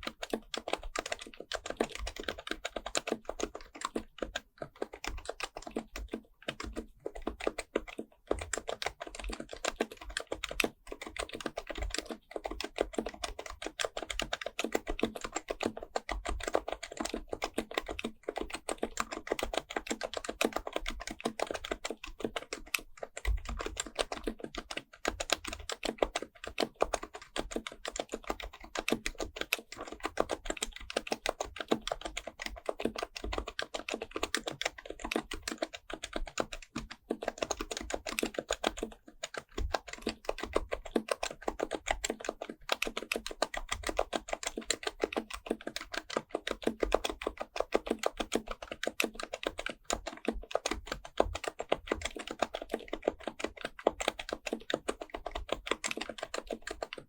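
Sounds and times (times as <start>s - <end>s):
fast typing on keyboard: 0.0s - 57.0s.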